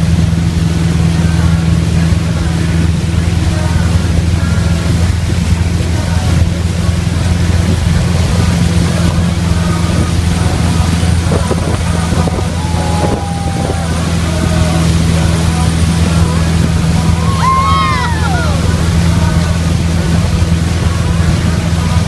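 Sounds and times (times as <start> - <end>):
motorboat engine humming: 0.0 - 22.0
water rushing past hull: 0.0 - 22.0.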